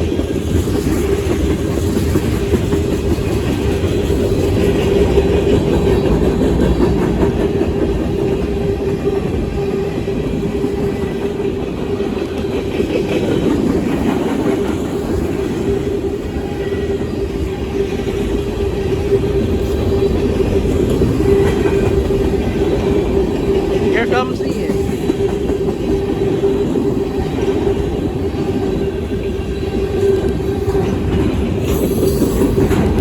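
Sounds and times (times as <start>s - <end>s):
freight train rumbling on rails: 0.0s - 33.0s.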